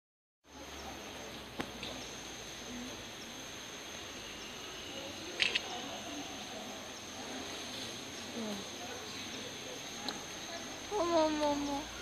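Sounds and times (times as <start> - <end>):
forest background hiss: 0.5 - 12.0.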